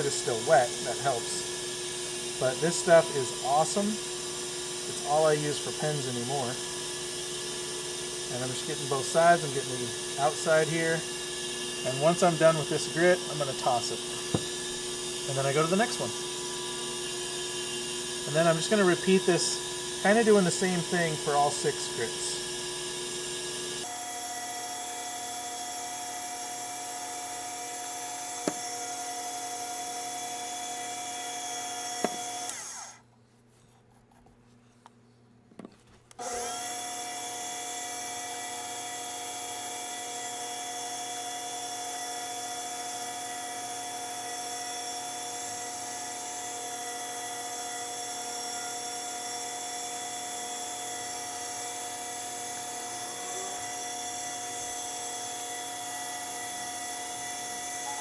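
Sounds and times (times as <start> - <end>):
small lathe whining: 0.0 - 33.1, 36.1 - 58.0.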